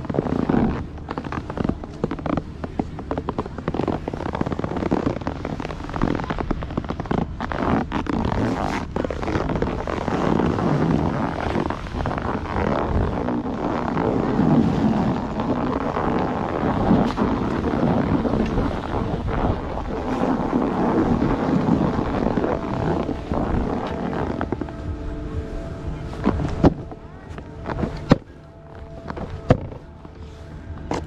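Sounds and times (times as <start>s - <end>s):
snowboard scraping over snow: 0.0s - 31.0s
wind buffeting microphone: 0.0s - 31.0s.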